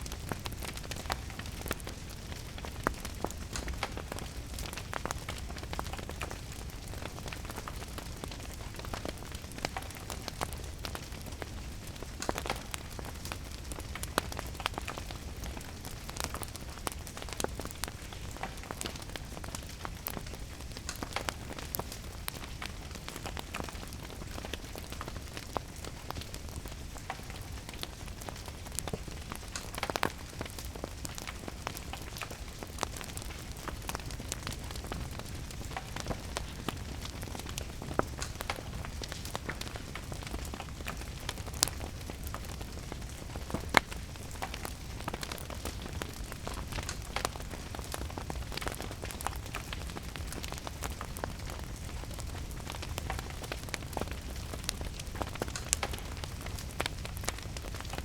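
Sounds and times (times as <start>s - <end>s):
steady rain: 0.0s - 58.0s
wood fire crackling: 0.0s - 58.0s.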